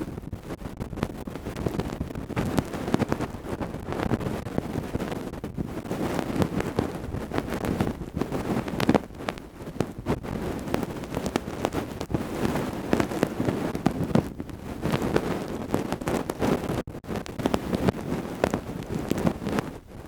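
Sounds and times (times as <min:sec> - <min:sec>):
tools scraping microphone: 0:00.0 - 0:20.0.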